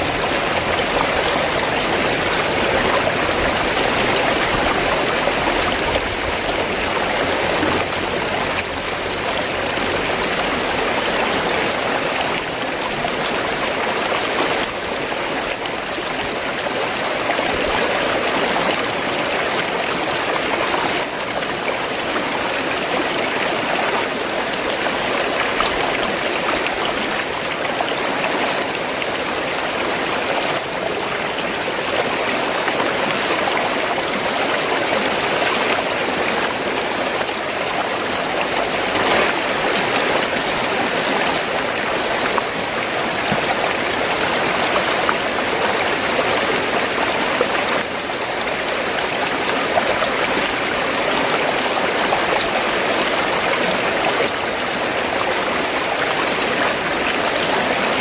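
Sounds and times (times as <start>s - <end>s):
stream water gurgling and rushing: 0.0s - 58.0s.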